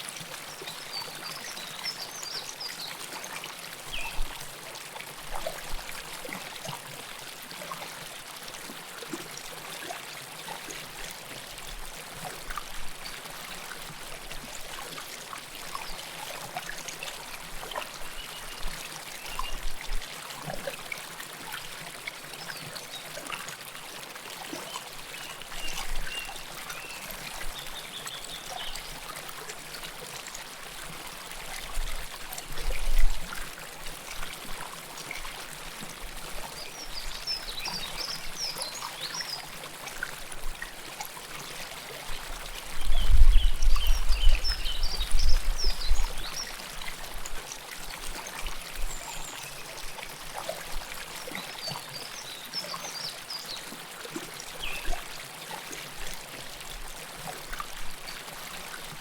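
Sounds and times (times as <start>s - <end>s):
river water babbling: 0.0s - 43.0s, 43.8s - 59.0s.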